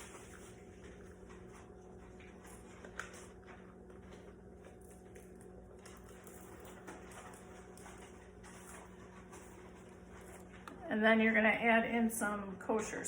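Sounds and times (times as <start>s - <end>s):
handling noises at mixing bowl: 0.0s - 11.5s
steady low hum: 0.0s - 13.0s.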